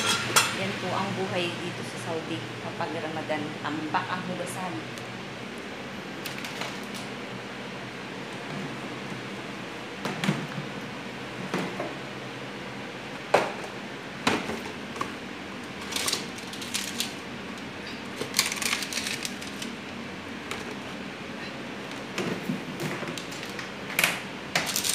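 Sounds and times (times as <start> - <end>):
kitchen exhaust fan humming: 0.0 - 24.9.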